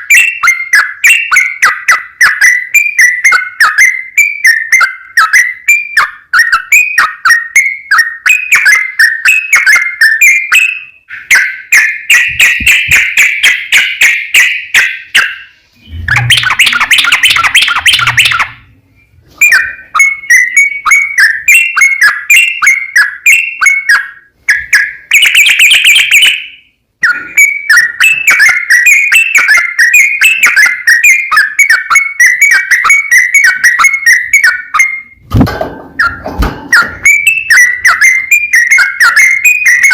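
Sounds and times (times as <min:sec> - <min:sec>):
bulbul singing: 0:00.0 - 0:35.2, 0:36.0 - 0:39.9.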